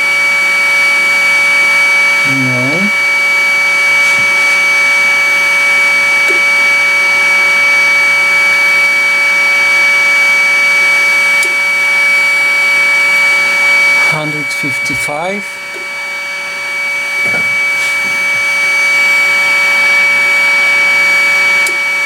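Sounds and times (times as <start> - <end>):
high whine: 0.0 - 22.0
hot air blower rushing: 0.0 - 22.0.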